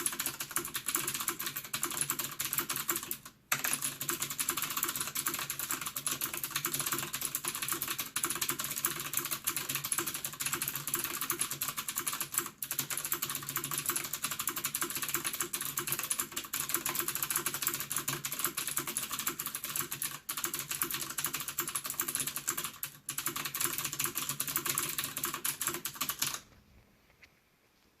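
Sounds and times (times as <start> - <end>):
fast typing on mechanical keyboard: 0.0 - 26.4.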